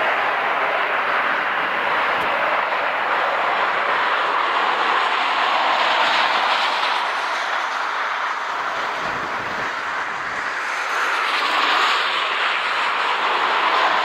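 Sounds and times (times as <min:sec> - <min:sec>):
jet engines at low thrust: 0:00.0 - 0:14.0.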